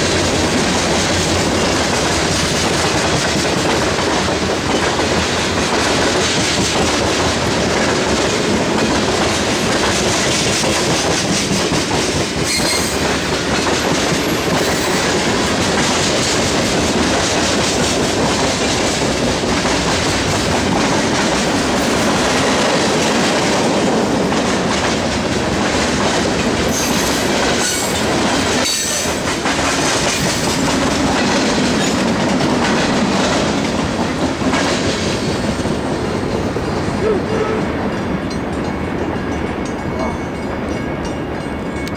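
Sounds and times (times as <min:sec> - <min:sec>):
train wheels clattering over rails: 0:00.0 - 0:37.0.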